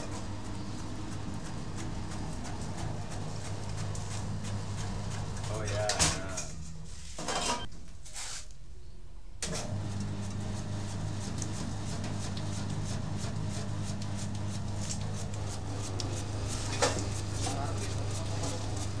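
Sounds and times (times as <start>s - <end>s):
machine motor hum: 0.0s - 6.9s, 9.6s - 19.0s.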